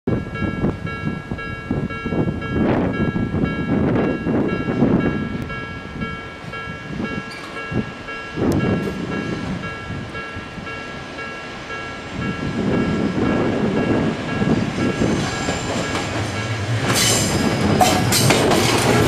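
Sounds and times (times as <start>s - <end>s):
level crossing alarm ringing: 0.1s - 16.6s
train rumbling on tracks: 0.1s - 19.0s.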